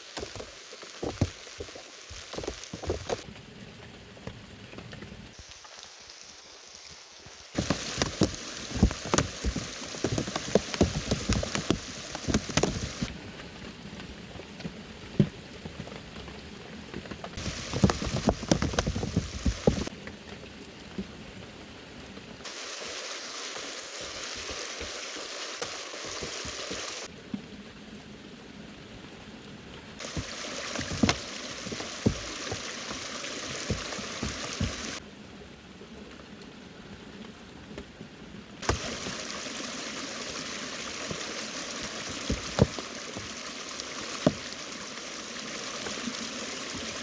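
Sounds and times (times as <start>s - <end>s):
heavy rain falling: 0.0s - 4.6s, 5.4s - 21.6s, 22.2s - 27.1s, 30.0s - 35.0s, 38.6s - 47.0s.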